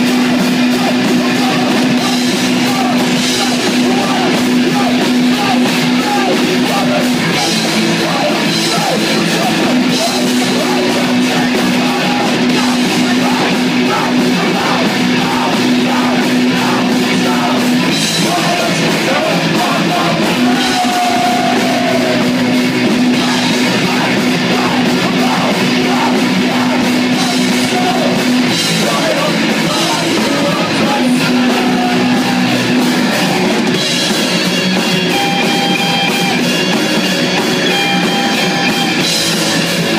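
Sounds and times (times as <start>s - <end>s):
bass guitar: 0.0s - 39.9s
distorted electric guitars: 0.0s - 39.9s
drum kit: 0.0s - 39.9s
voices singing: 0.0s - 39.9s.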